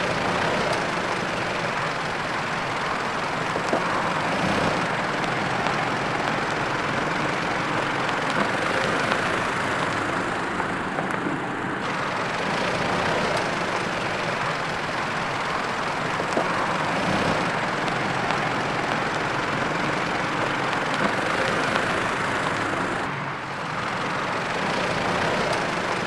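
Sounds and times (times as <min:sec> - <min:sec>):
engine and tyre noise: 0:00.0 - 0:26.0
gravel clicks: 0:00.1 - 0:23.1.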